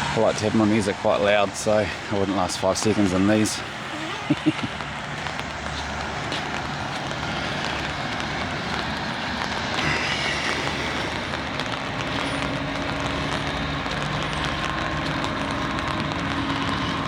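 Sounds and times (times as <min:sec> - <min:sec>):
rain: 0:00.0 - 0:17.0
vehicle engine running: 0:00.0 - 0:17.0.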